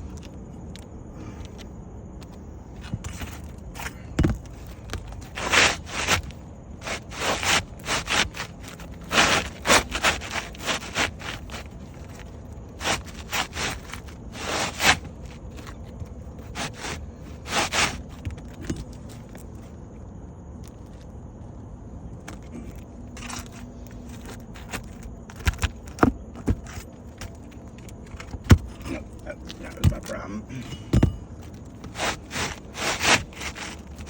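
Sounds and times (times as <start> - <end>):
scraping on shingle roof: 0.0 - 19.7, 22.2 - 34.0.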